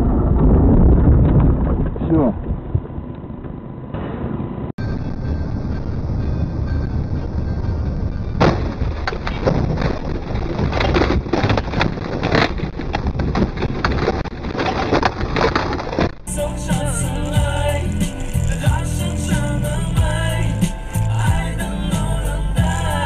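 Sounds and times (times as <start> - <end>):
road noise inside moving car: 1.3 - 23.0.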